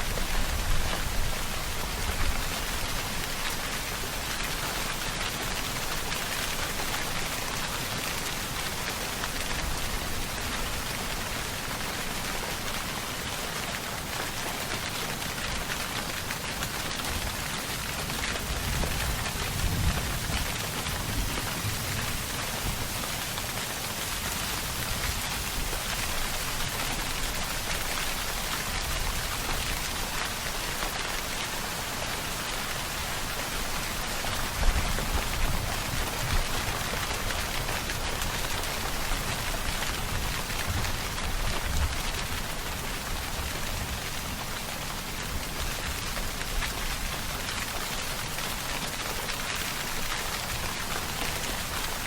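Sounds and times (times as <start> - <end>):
heavy rain pattering: 0.0 - 52.0.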